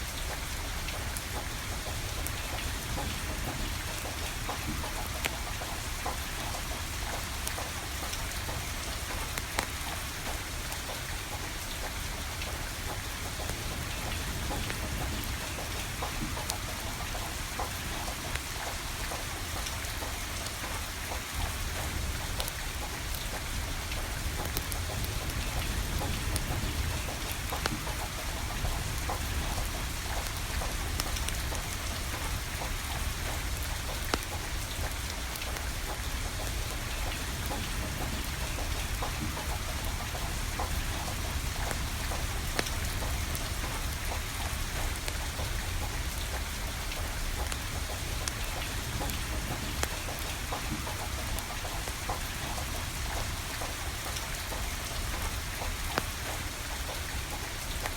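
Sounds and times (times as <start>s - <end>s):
steady rain: 0.0s - 57.9s
wood fire popping and crackling: 0.2s - 57.9s.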